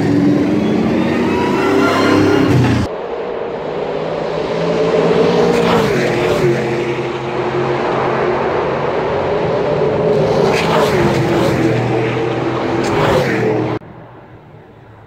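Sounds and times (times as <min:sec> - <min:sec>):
race car engine with gear changes: 0:00.0 - 0:02.9, 0:03.7 - 0:13.8.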